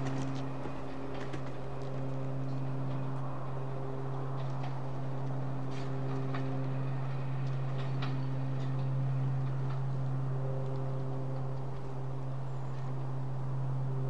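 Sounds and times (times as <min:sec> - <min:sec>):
train diesel engine droning: 0:00.0 - 0:14.0.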